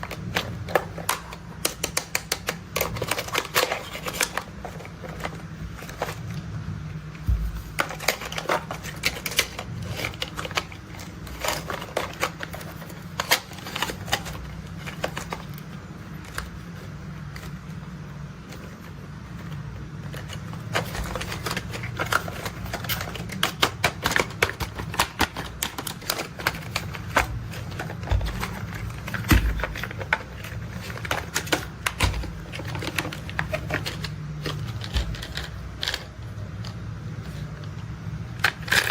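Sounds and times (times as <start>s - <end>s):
plastic parts clicking and clattering: 0.0s - 6.5s, 7.2s - 38.9s
steady low hum: 0.0s - 38.9s.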